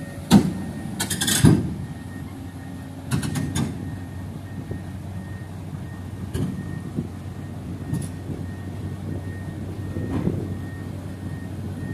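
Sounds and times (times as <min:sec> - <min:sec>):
heavy diesel machinery running: 0:00.0 - 0:11.9.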